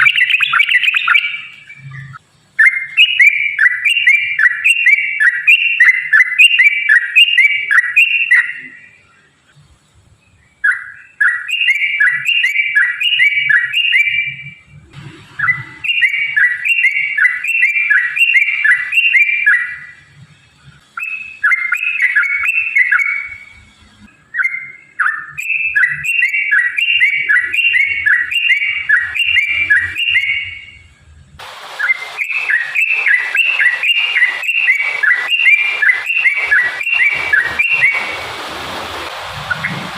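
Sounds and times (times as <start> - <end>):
bird singing bubbly whistles: 0.0 - 9.0, 10.6 - 14.6, 15.3 - 20.0, 21.0 - 23.6, 24.3 - 30.8, 31.8 - 38.4, 39.4 - 39.8
hiss-like background noise: 0.0 - 39.9.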